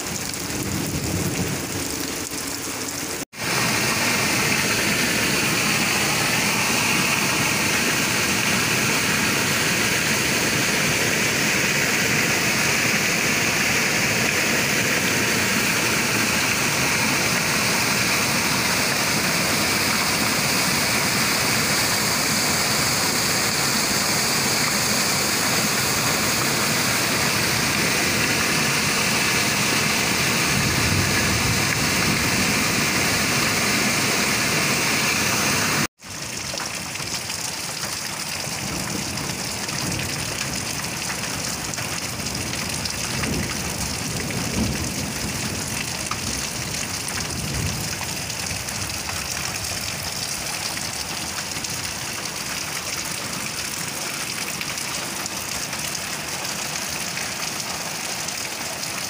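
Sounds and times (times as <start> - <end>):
heavy rain falling: 0.0 - 59.0
runoff water rushing: 0.0 - 59.0.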